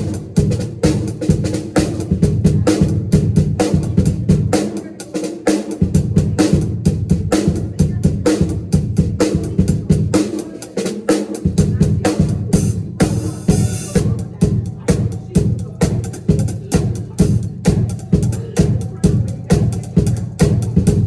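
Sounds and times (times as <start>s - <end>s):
drum kit playing: 0.0s - 21.0s.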